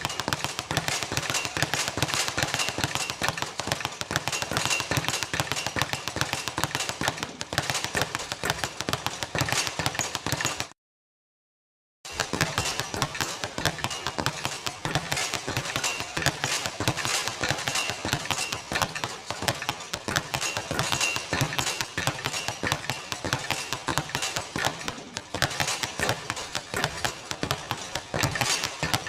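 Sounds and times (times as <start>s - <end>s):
shoe squeaks: 0.0s - 10.6s, 12.1s - 29.0s
basketballs bouncing on hard court: 0.0s - 10.7s, 12.1s - 29.0s.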